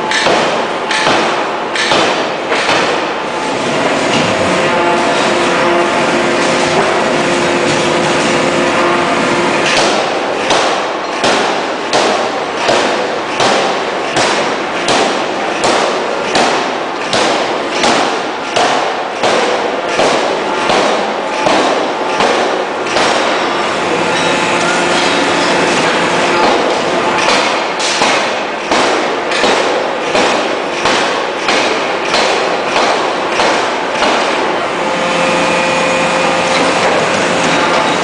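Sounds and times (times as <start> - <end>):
forging hammer blows: 0.0 - 38.0
machinery din with hum: 0.0 - 38.0.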